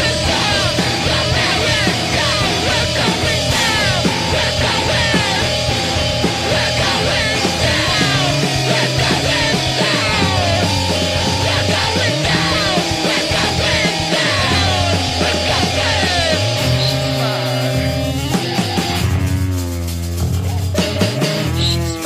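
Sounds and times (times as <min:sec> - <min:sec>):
hardcore punk band playing: 0:00.0 - 0:22.0.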